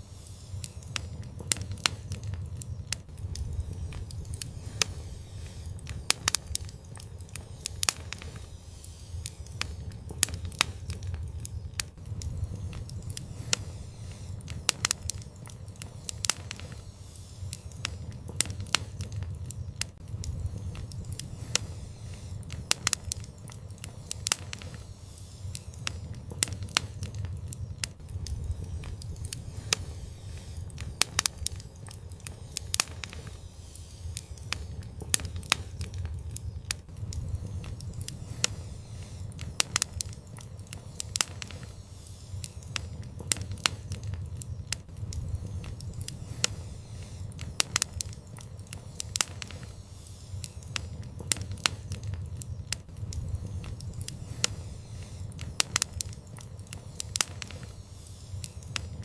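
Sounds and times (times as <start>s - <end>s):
low steady rumble: 0.0s - 49.8s
fire crackling: 0.0s - 59.0s
fire popping: 0.0s - 59.0s.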